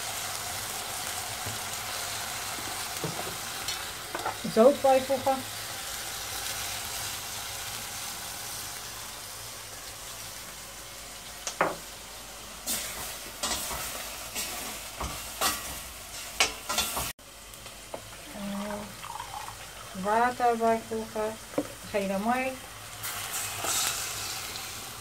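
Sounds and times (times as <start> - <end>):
food sizzling in a pot: 0.0 - 25.0.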